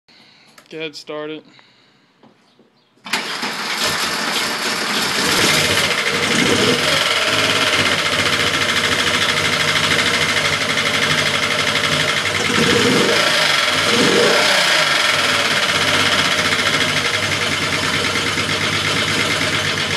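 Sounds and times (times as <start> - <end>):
car engine starting and idling: 3.1 - 19.9.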